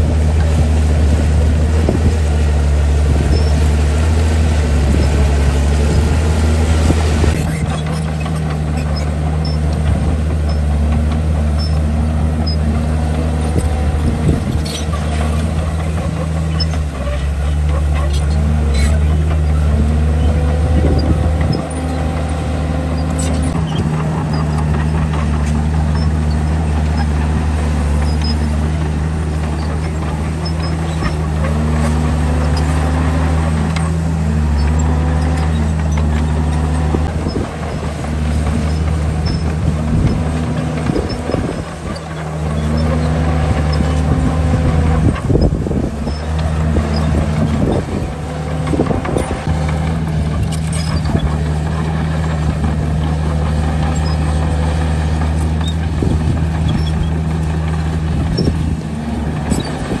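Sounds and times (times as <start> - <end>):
heavy diesel machinery running: 0.0 - 60.0.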